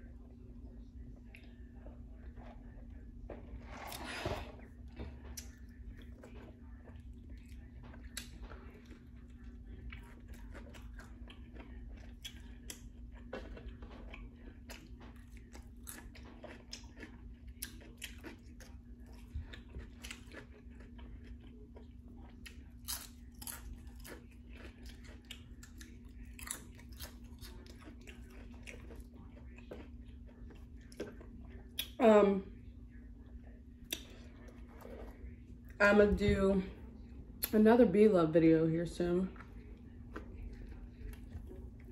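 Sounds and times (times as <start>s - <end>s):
faint steady hum: 0.0s - 41.9s
crunchy chewing and biting: 0.1s - 32.0s, 39.4s - 41.9s.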